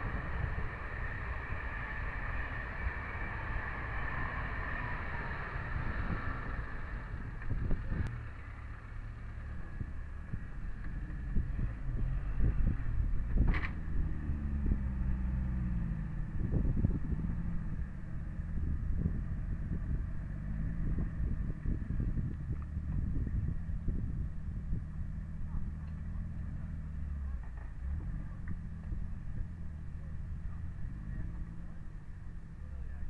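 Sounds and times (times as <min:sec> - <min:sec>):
off-road engines revving: 0:00.0 - 0:33.0.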